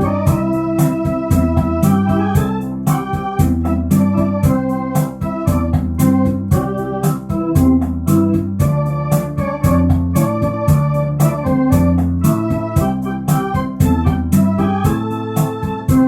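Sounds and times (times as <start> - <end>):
electronic organ melody: 0.0 - 16.0
rumba rhythm accompaniment: 0.0 - 16.0.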